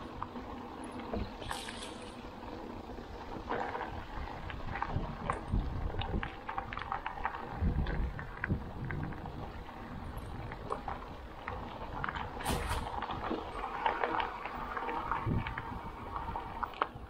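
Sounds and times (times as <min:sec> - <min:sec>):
bike knocking and rattling: 0:00.0 - 0:17.0
wind rumbling on microphone: 0:00.0 - 0:17.0.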